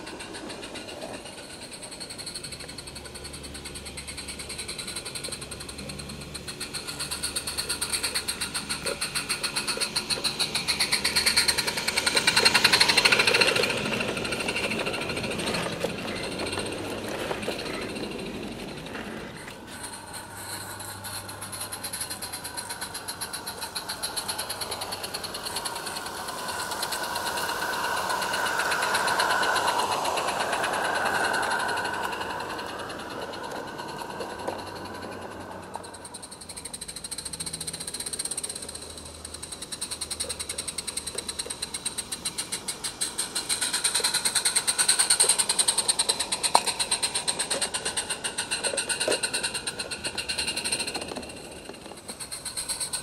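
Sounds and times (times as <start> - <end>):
steam locomotive chuffing: 0.0 - 53.0.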